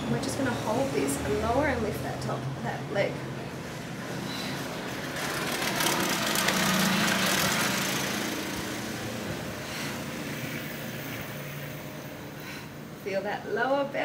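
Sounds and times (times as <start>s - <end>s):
passing motor vehicle engine: 0.0s - 13.0s.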